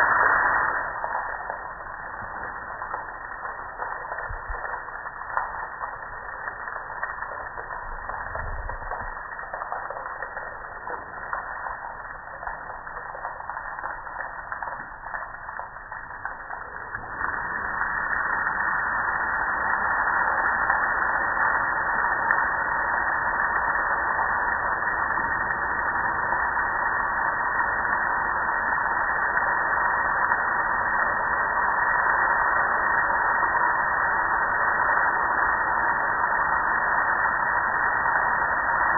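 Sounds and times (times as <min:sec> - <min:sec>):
water spraying on grill: 0:00.0 - 0:32.4.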